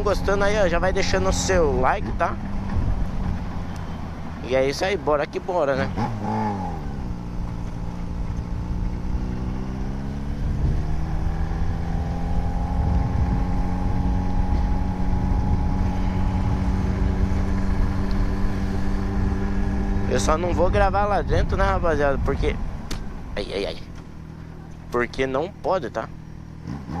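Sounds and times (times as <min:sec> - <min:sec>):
low rumble: 0:00.0 - 0:26.7
motorcycle engine revving: 0:00.0 - 0:27.0.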